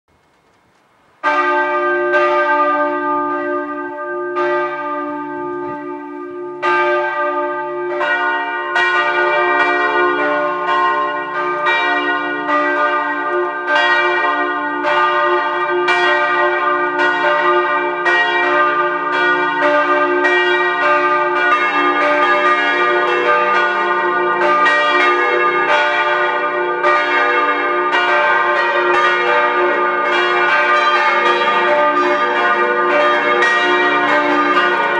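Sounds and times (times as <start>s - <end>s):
church bells pealing: 1.2s - 34.9s.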